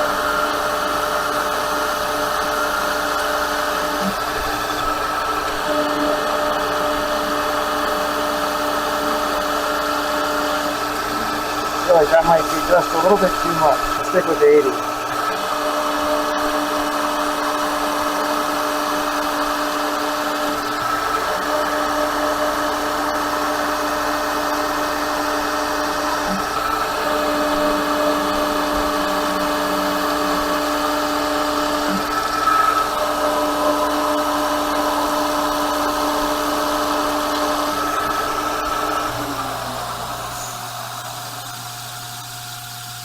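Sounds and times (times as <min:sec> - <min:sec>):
metal lathe cutting whine: 0:00.0 - 0:43.0.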